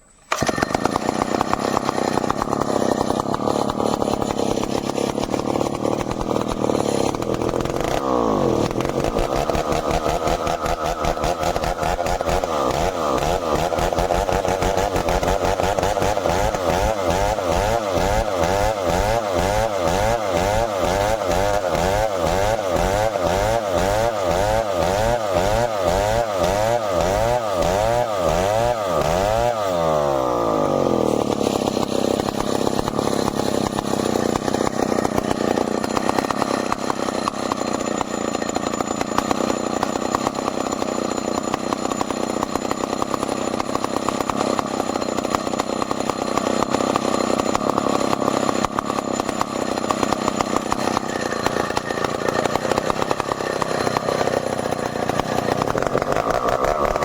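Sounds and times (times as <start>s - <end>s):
chainsaw running hard: 0.3s - 57.0s.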